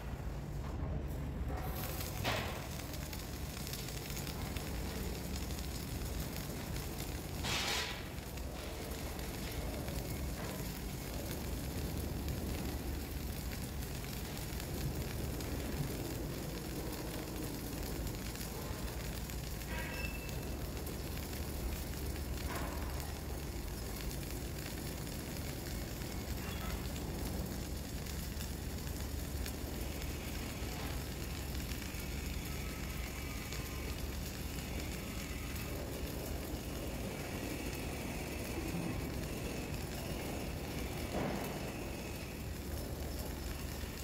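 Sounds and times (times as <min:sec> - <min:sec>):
welding arc crackling: 0:00.0 - 0:44.0.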